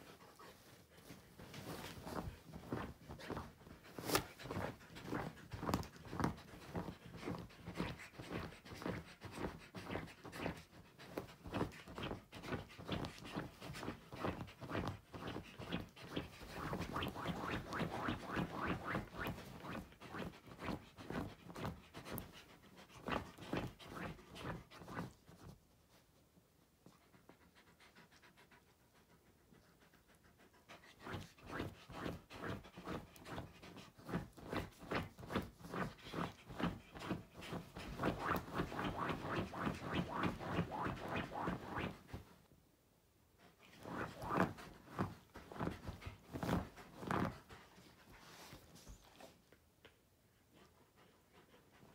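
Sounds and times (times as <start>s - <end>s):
dog panting: 0.0s - 26.0s, 26.8s - 42.4s, 43.4s - 49.5s, 50.3s - 51.9s
dog paws scratching fabric: 0.0s - 26.2s, 30.8s - 42.4s, 43.5s - 49.6s.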